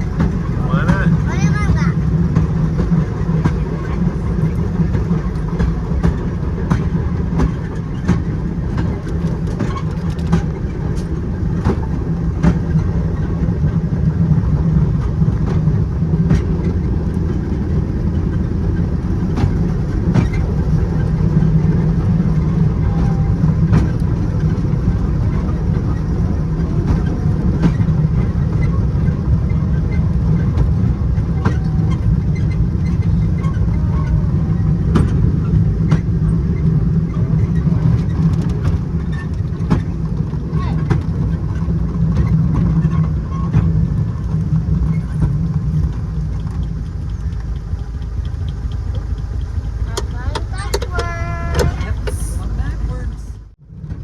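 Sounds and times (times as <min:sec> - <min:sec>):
rail vehicle rumbling: 0:00.0 - 0:54.0
wheels clacking over track: 0:00.0 - 0:54.0.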